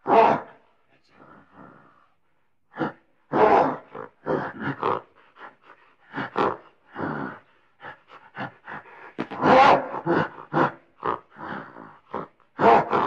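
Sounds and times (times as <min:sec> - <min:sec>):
gorilla grunting: 0:00.0 - 0:13.0.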